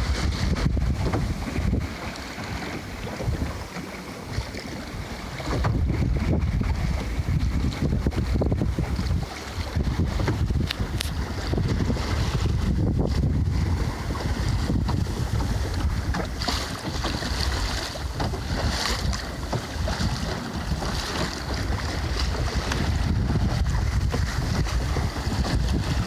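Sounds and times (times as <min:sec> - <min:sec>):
water splashing along a hull: 0:00.0 - 0:26.0
wind buffeting microphone: 0:00.0 - 0:26.0.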